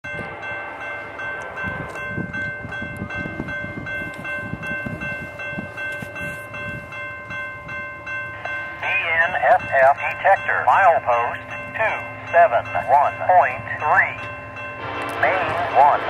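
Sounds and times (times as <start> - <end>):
diesel locomotive engines running: 0.0 - 16.0
high ringing tone: 0.1 - 16.0.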